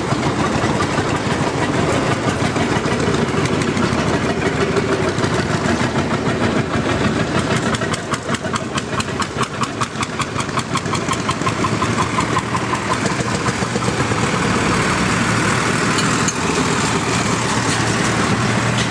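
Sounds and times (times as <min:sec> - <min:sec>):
modern tractor engine running: 0:00.0 - 0:18.9
old tractor engine thumping: 0:00.0 - 0:18.9.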